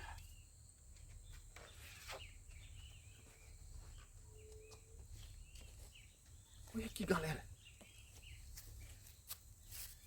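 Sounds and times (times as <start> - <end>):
bird chirps: 0.0 - 10.0.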